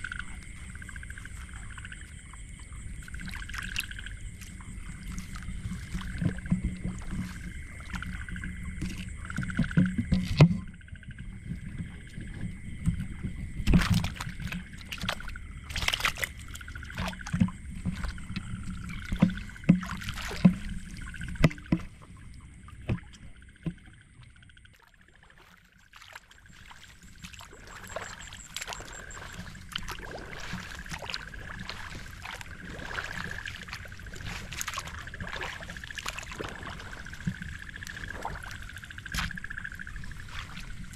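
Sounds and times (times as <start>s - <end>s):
water splashing and sloshing: 0.0s - 40.9s.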